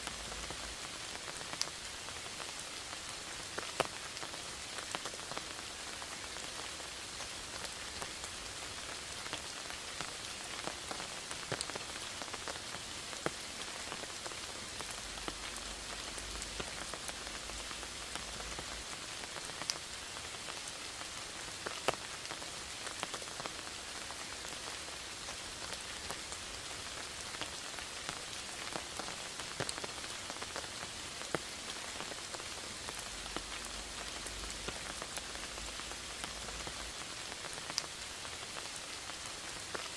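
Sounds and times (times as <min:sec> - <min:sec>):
rain falling in forest: 0:00.0 - 0:39.9
raindrops ticking on surfaces: 0:00.0 - 0:39.9.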